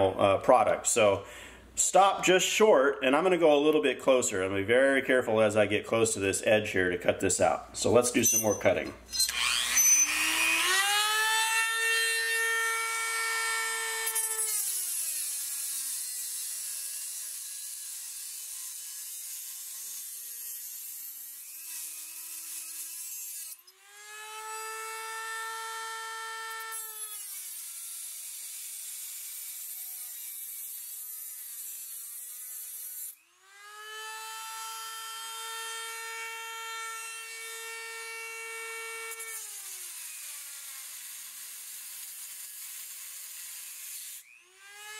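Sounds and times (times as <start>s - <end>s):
rotary tool grinding metal: 8.0s - 44.9s.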